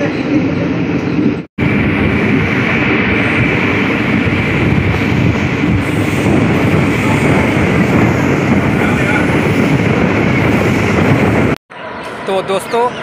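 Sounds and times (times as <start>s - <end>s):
train coach rumbling on rails: 0.0s - 13.0s
wind buffeting microphone: 0.0s - 13.0s.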